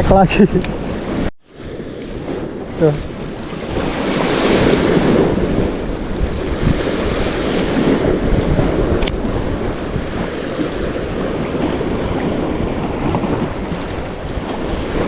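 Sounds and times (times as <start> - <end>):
waves washing against shore: 0.0 - 15.0
wind buffeting microphone: 0.0 - 15.0.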